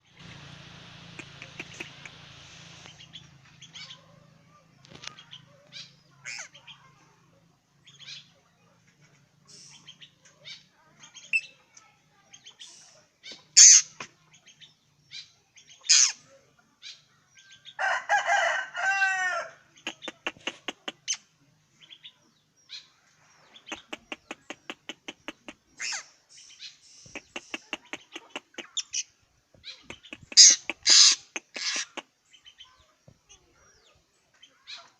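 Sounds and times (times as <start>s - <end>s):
bird harsh calls: 0.0s - 6.9s, 9.4s - 34.9s.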